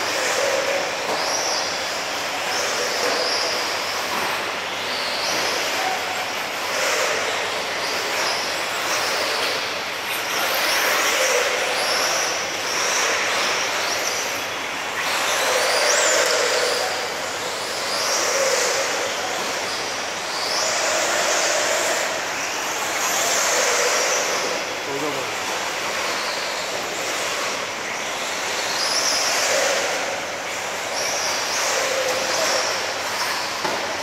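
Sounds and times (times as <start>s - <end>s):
rc car tyres rushing: 0.0s - 34.0s.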